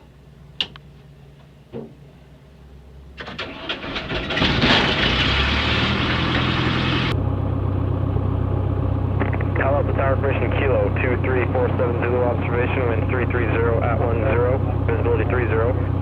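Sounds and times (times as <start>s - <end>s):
aircraft engine cranking and running: 3.2s - 16.0s.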